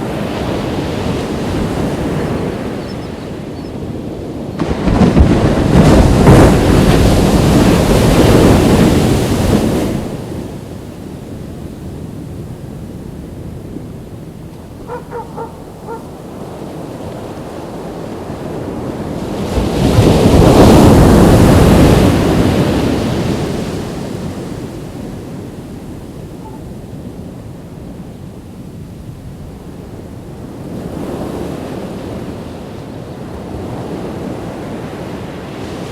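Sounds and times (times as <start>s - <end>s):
ocean waves breaking: 0.0s - 35.9s.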